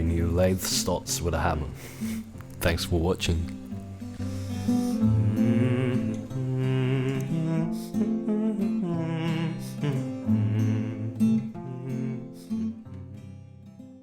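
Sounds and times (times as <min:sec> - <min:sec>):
guitar-led music: 0:00.0 - 0:14.0.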